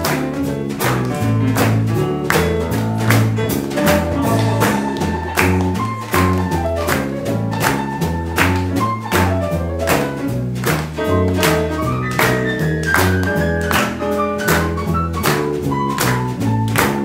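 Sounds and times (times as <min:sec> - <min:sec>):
drum kit keeping time: 0:00.0 - 0:17.0
piano melodic line: 0:00.0 - 0:17.0
upright bass: 0:00.0 - 0:17.0.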